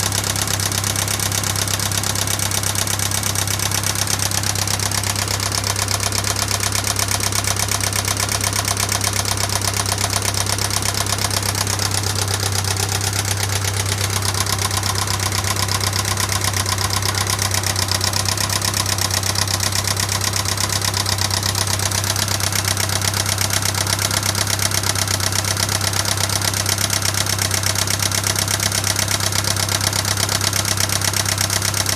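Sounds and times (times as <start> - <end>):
car engine running with ticking: 0.0 - 31.9.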